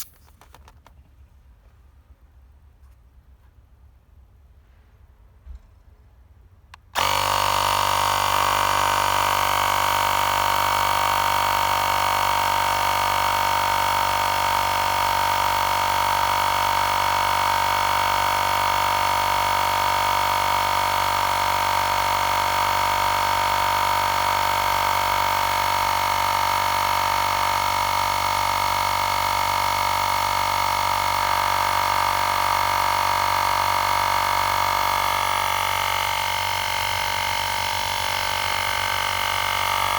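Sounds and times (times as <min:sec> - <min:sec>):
air compressor whining drone: 0:06.9 - 0:39.9.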